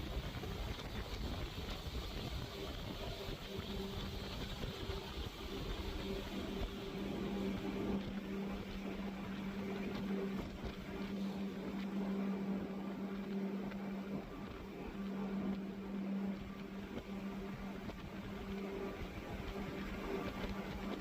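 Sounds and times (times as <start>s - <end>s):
noisy hiss: 0.0s - 21.0s
boat engines humming: 0.2s - 21.0s.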